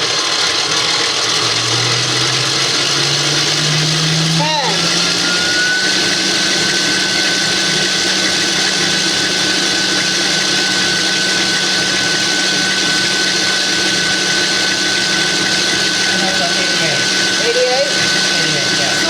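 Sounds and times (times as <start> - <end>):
stand mixer motor whine: 0.0 - 19.0.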